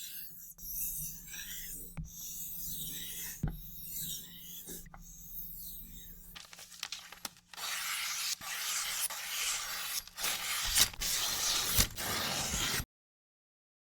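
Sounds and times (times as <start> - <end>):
knife blade scraping on sharpener: 0.0 - 6.4, 7.1 - 12.8.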